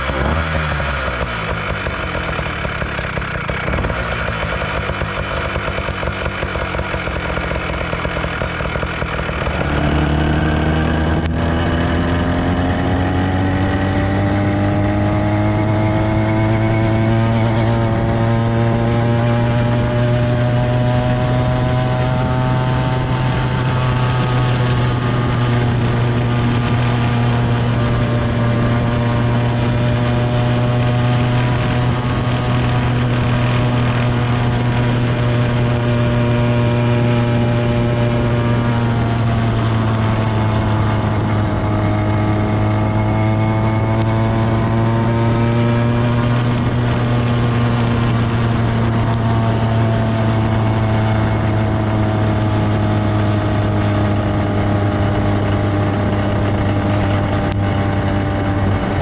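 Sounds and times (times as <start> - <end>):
small two-stroke engine running: 0.0 - 59.0.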